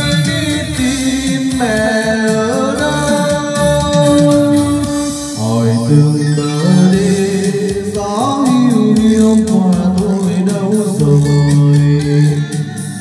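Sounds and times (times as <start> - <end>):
ballad over loudspeakers: 0.0 - 13.0.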